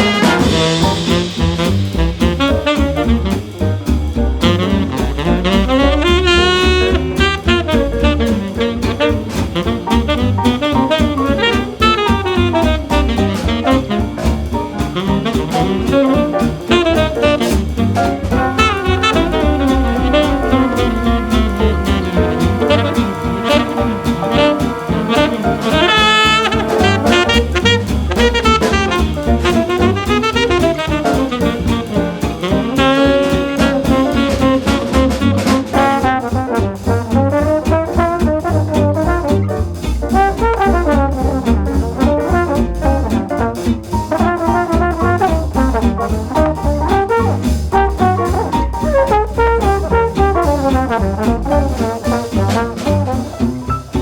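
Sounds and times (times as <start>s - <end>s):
up-tempo swing jazz: 0.0s - 54.0s.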